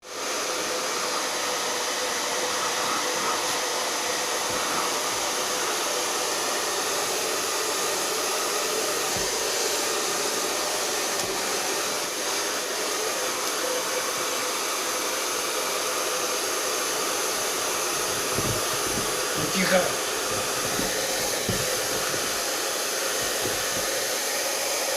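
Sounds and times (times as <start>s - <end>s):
hair dryer running: 0.0s - 24.9s.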